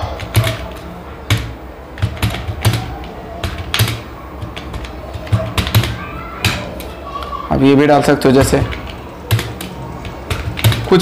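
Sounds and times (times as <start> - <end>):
keyboard keys clicking: 0.0 - 7.3, 8.4 - 11.0.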